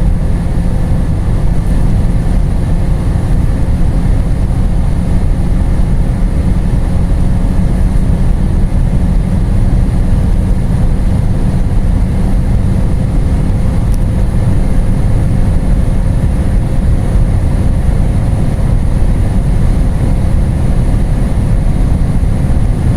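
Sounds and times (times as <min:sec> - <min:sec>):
car engine at full throttle: 0:00.0 - 0:22.9
road and wind noise: 0:00.0 - 0:22.9.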